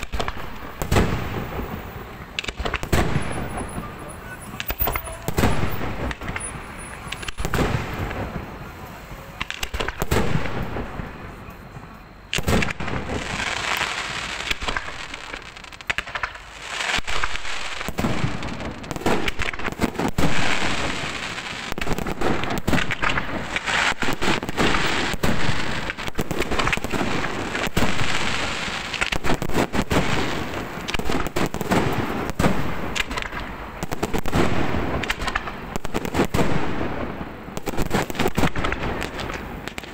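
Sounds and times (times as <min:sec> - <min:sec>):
fireworks crackling hiss: 0:00.0 - 0:39.9.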